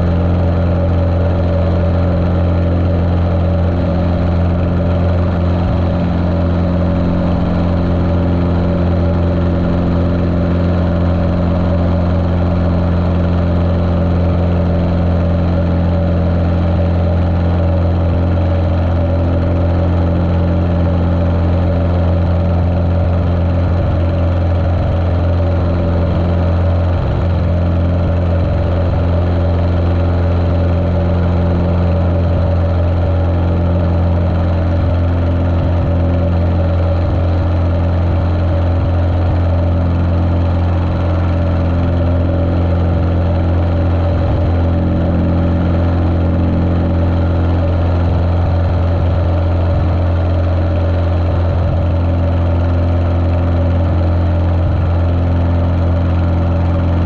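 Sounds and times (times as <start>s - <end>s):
muffled propeller plane engine: 0.0s - 57.0s.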